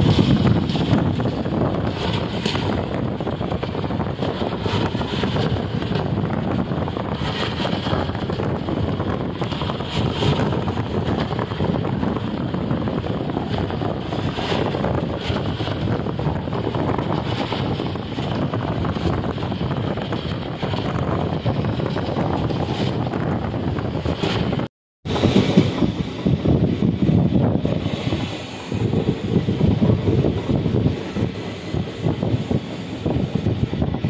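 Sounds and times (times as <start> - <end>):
vehicle road and wind noise: 0.0 - 34.0
wind buffeting microphone: 0.0 - 34.0.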